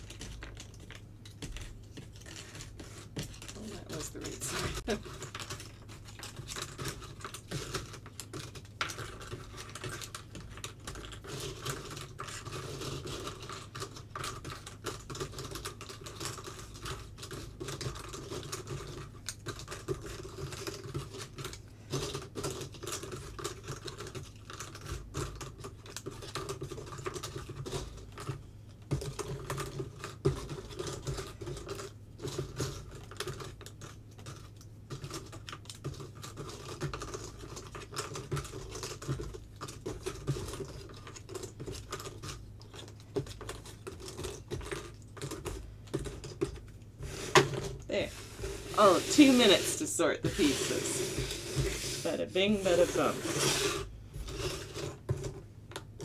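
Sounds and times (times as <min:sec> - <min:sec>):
cardboard puzzle pieces clicking: 0:00.0 - 0:46.7.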